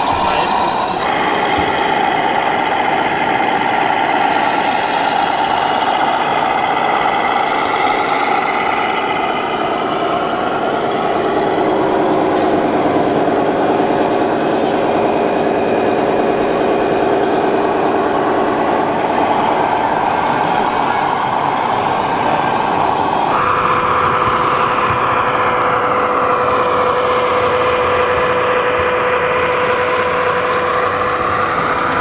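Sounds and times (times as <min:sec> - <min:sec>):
simulated diesel truck engine: 0:00.0 - 0:32.0.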